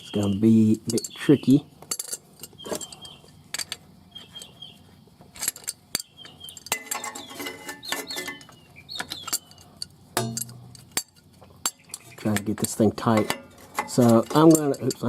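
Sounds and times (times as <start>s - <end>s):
metal tools clinking: 0.1s - 4.6s, 5.2s - 15.0s.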